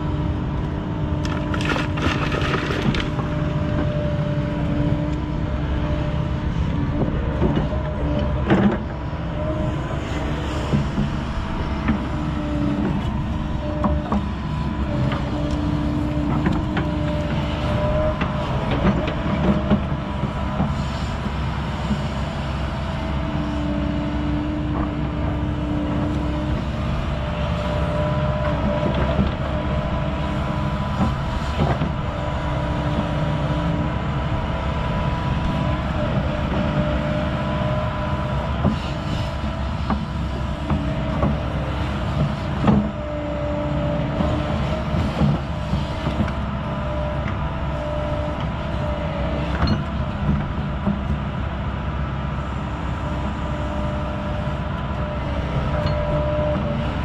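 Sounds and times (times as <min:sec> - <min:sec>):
constant whine: 0:00.0 - 0:57.0
excavator engine drone: 0:00.0 - 0:57.0.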